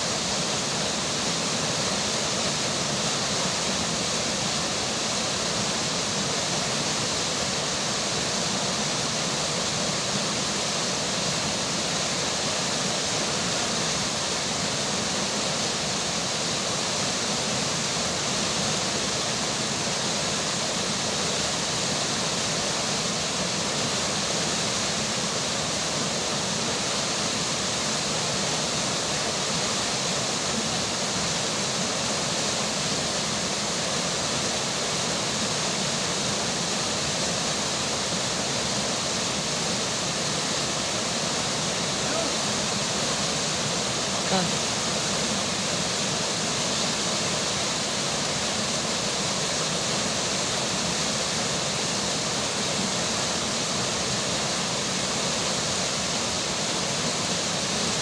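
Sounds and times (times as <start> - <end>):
rushing river water: 0.0 - 58.0.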